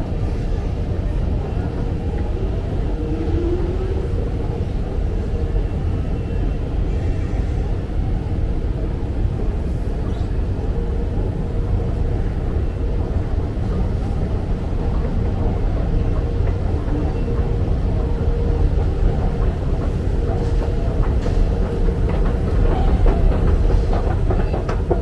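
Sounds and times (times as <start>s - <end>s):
underground train rumble: 0.0s - 25.0s.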